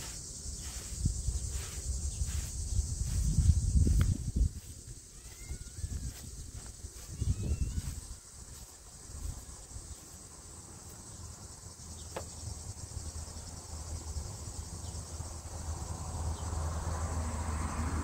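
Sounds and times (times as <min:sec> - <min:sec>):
insect chorus: 0:00.0 - 0:18.0.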